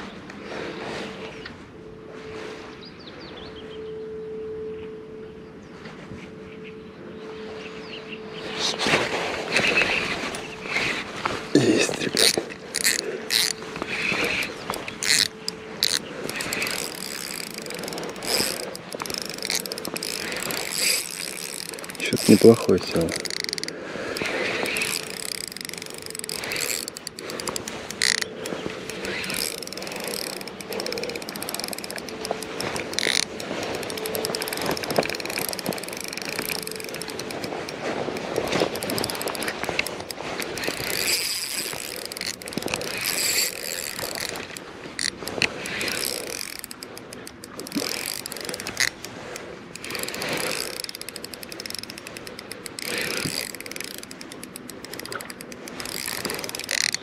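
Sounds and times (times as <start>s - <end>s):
fishing reel ticking: 8.3s - 57.0s.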